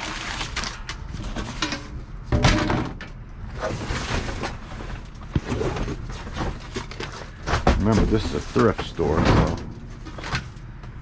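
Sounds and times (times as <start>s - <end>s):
junk bumping and scraping in dumpster: 0.0s - 11.0s.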